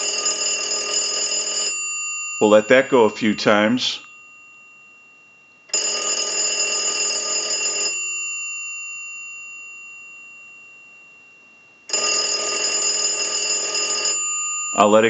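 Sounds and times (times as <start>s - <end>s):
payphone bell ringing: 0.0s - 4.8s, 5.7s - 11.1s, 11.9s - 15.0s.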